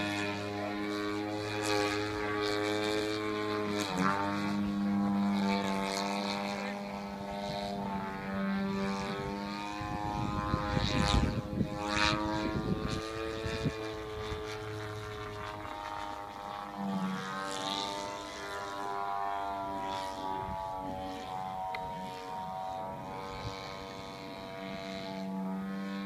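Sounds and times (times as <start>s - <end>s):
model plane engine droning: 0.0s - 26.0s.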